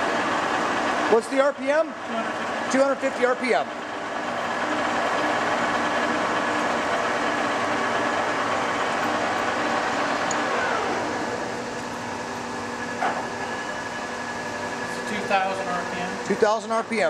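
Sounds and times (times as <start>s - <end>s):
lathe mechanical hum: 0.0s - 17.0s.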